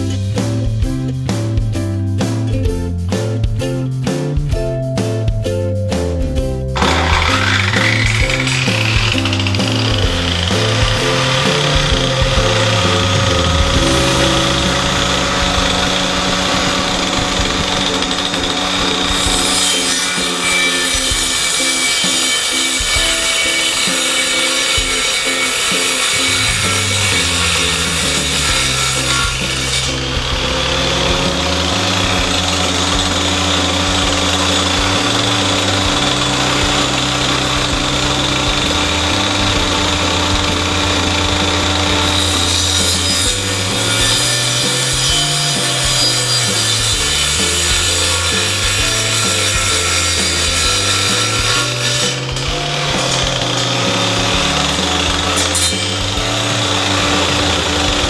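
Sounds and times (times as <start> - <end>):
background music: 0.0 - 58.0
saw cutting wood: 6.8 - 58.0.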